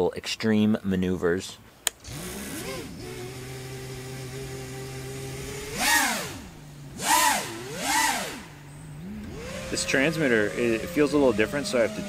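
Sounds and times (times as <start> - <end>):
drone motors humming: 2.0 - 12.0.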